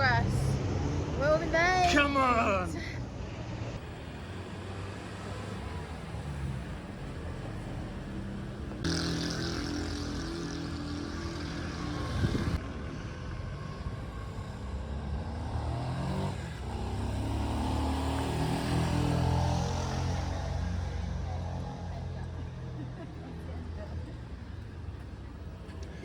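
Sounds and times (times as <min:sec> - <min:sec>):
road noise: 0:00.0 - 0:26.0
vehicle engine accelerating: 0:03.3 - 0:25.4.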